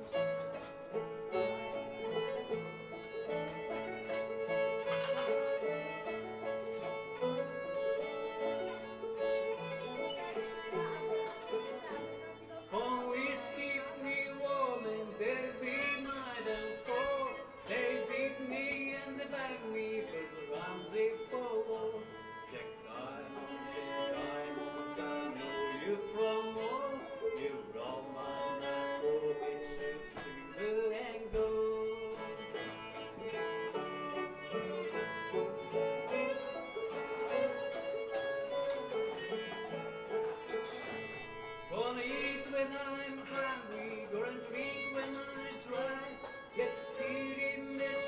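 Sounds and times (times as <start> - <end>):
fiddle playing tune: 0.0 - 48.0
plucked string accompaniment: 0.0 - 48.0.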